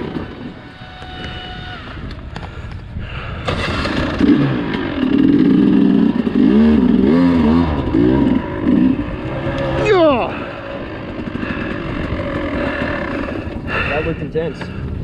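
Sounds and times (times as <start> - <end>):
dirt bike engine revving: 0.0 - 2.3, 3.4 - 15.0.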